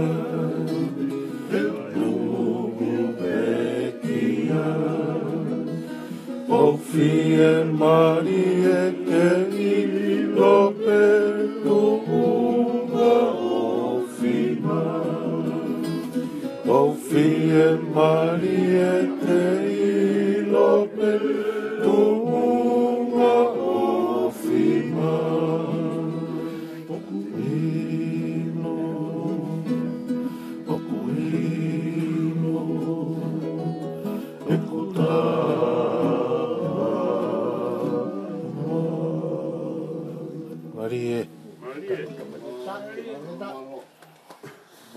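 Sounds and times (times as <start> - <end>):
man singing: 0.0 - 5.8, 6.4 - 39.2
acoustic guitar strumming: 0.0 - 42.2.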